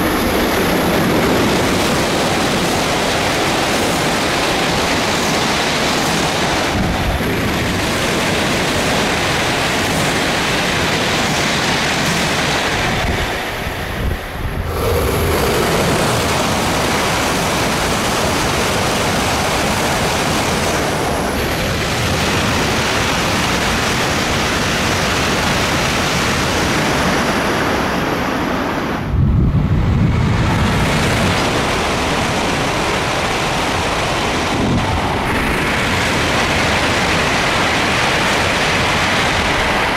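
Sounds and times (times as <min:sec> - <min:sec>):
high-speed trains passing: 0:00.0 - 0:39.9.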